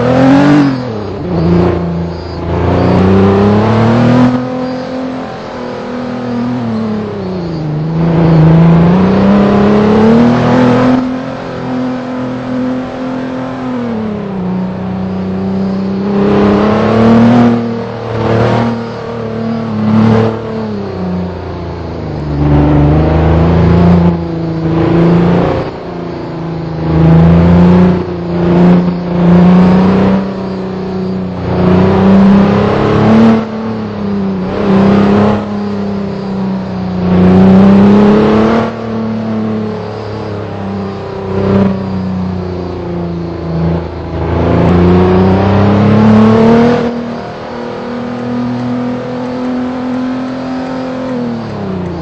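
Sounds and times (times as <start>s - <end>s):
vehicle engine revving: 0.0s - 52.0s.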